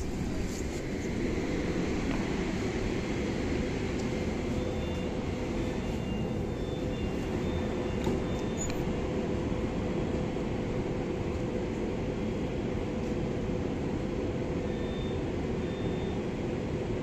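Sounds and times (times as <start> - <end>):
electric train drone: 0.0 - 17.0
mid-pitched hum: 0.0 - 17.0.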